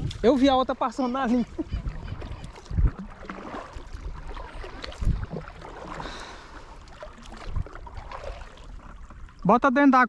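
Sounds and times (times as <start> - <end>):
water sloshing: 0.0 - 9.5.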